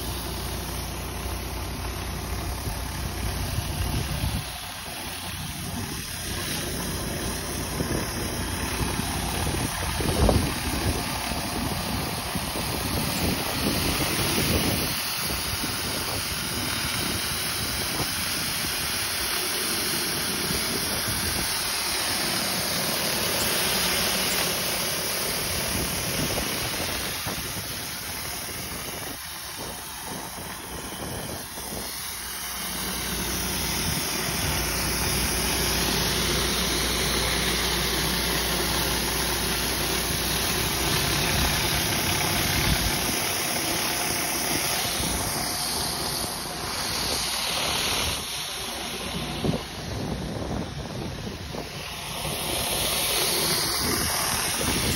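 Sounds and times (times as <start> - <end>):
pressure washer engine running: 0.0 - 54.9
water jets hissing on concrete: 0.0 - 54.9.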